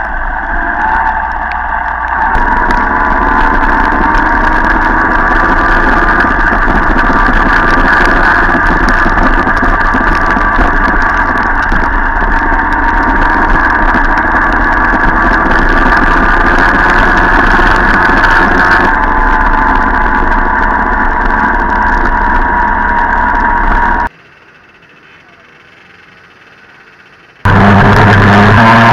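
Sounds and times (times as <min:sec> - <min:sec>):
moped engine running: 0:00.0 - 0:28.9
other mopeds: 0:00.0 - 0:28.9.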